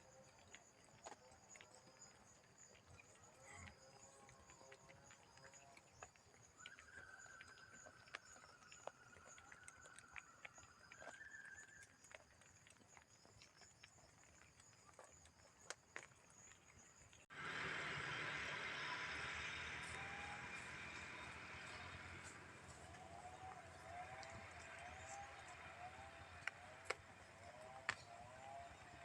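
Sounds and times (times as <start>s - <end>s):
cattle hooves clopping on road: 0.0s - 29.0s.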